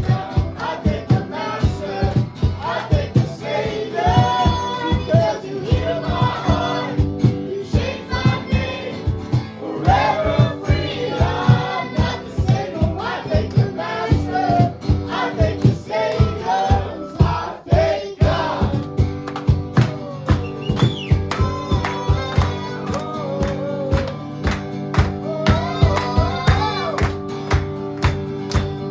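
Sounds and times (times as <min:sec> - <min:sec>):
group of voices singing: 0:00.0 - 0:24.4, 0:25.2 - 0:27.1
band with a steady beat: 0:00.0 - 0:28.9.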